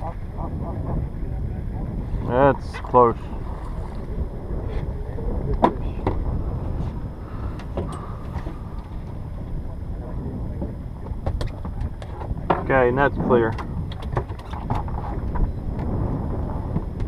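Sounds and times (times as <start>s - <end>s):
boat engine low rumble: 0.0s - 17.0s.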